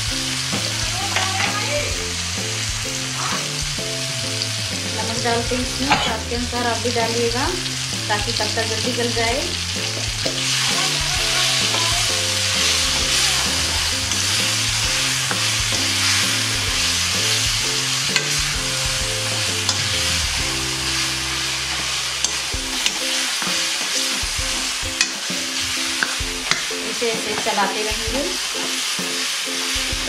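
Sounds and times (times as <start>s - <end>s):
leaves sizzling in hot oil: 0.0s - 30.0s
soft background tune: 0.0s - 30.0s.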